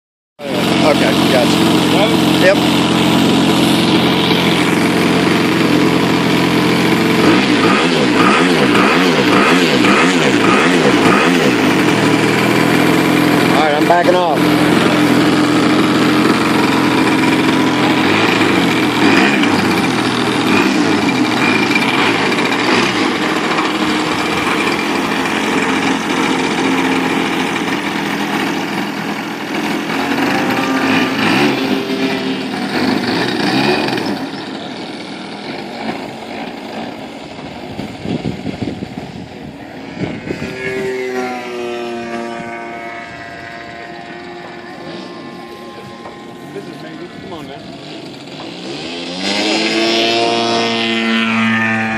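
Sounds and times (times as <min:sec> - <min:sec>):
model plane engine at high power: 0:00.4 - 0:51.9.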